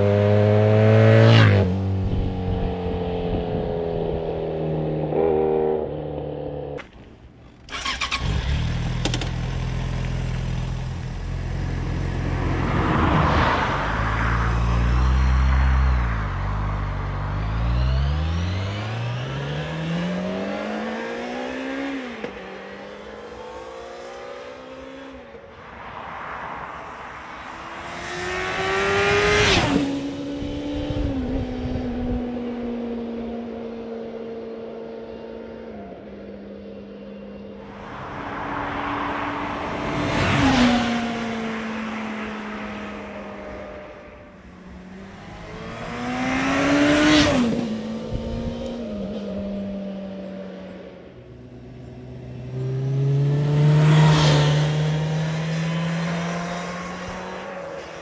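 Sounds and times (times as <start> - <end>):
motorcycle engine accelerating and passing: 0.0 - 26.0, 26.8 - 58.0.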